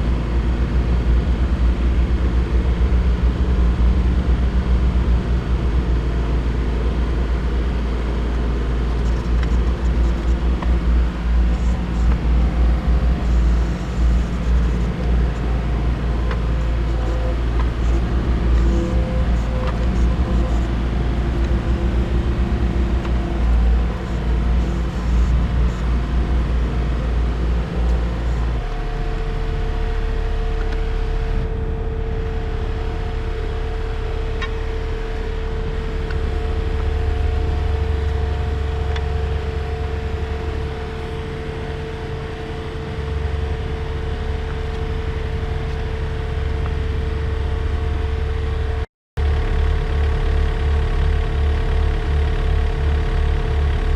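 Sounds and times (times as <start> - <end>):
excavator diesel engine running: 0.0 - 53.9
steady whine: 0.0 - 53.9.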